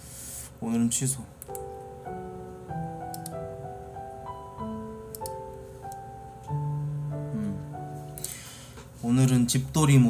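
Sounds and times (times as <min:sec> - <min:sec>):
soft piano music: 0:00.8 - 0:10.0.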